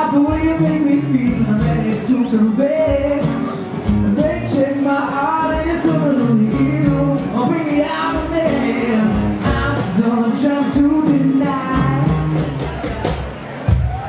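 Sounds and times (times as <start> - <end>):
man singing with held notes: 0.0 - 12.5
acoustic guitar: 0.0 - 14.0.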